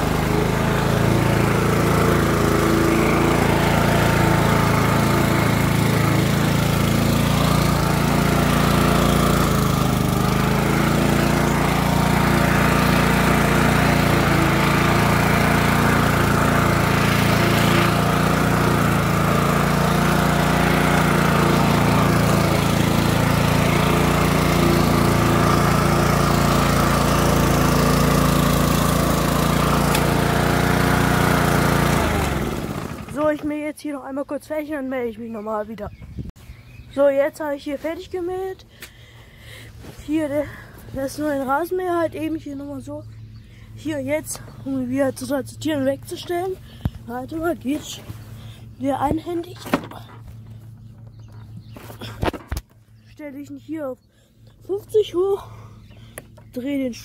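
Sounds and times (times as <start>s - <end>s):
lawn mower engine running: 0.0s - 33.7s, 36.4s - 53.1s.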